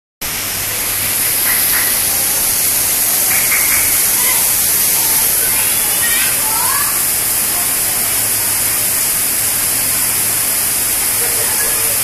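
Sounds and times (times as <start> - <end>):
torrential rain: 0.2 - 12.0.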